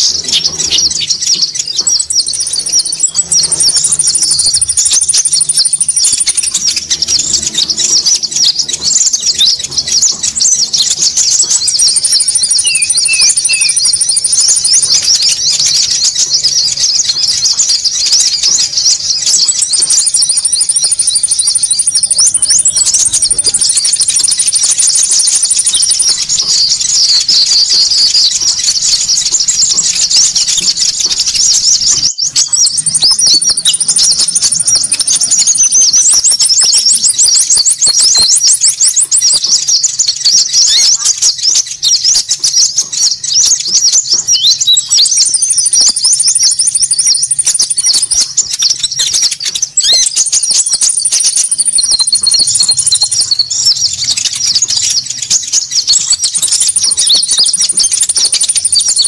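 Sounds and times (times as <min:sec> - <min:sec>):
birds chirping rapidly: 0:00.0 - 0:59.0
high buzzing bird trills: 0:00.0 - 0:59.0.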